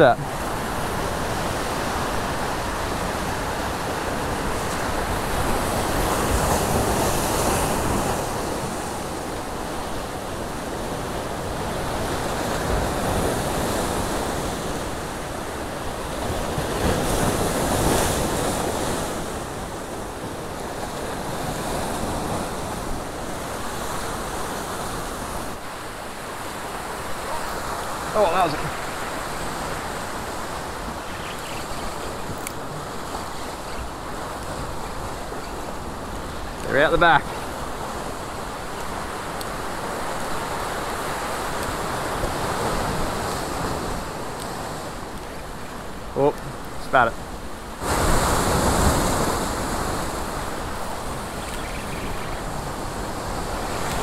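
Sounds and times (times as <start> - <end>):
ocean surf breaking against rocks: 0.0 - 54.0.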